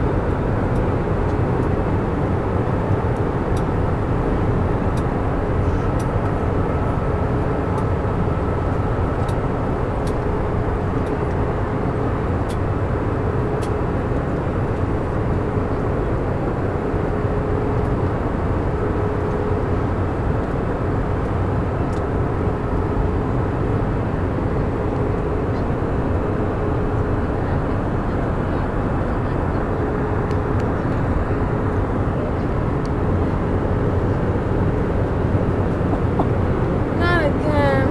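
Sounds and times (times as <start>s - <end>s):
engines and rushing air roar: 0.0s - 37.9s.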